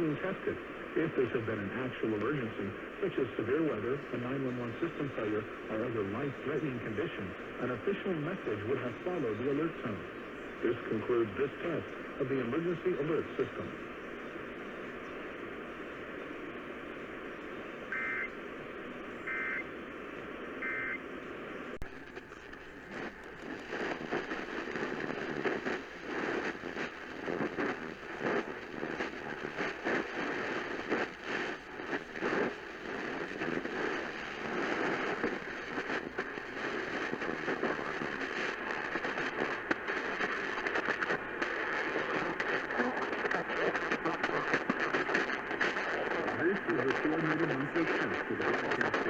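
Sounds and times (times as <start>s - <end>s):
radio static hiss and crackles: 0.0s - 49.0s.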